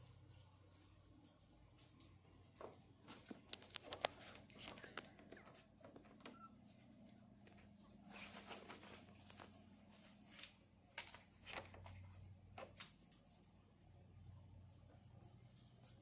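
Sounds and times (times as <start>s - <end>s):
soft clicks and rustles: 0.0s - 13.6s
faint low hum: 0.0s - 16.0s.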